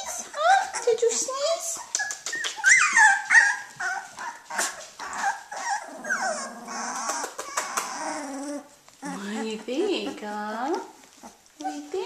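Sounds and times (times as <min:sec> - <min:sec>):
puppies whimpering and yipping: 0:00.0 - 0:12.0.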